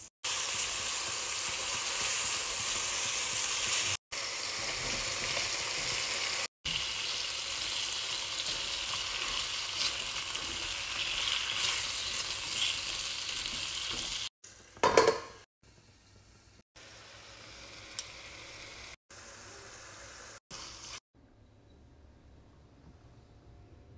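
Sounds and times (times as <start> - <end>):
vegetables sizzling in a wok: 0.0 - 21.0.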